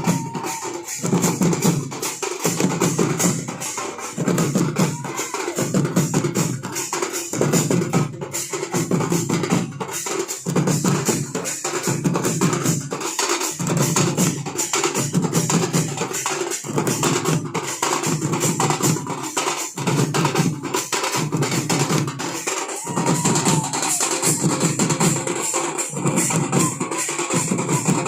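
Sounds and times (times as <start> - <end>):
drums beaten in fast rhythm: 0.0 - 28.0.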